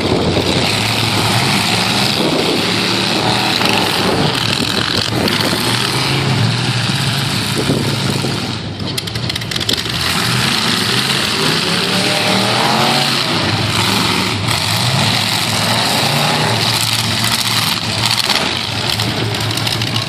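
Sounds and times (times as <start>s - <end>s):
truck engine revving: 0.0s - 20.0s
truck engines running: 0.0s - 20.0s.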